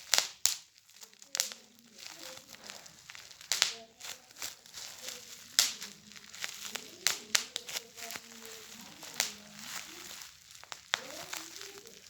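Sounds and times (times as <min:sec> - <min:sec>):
plastic crinkling: 0:00.0 - 0:12.0
plastic toy popping: 0:00.0 - 0:12.0.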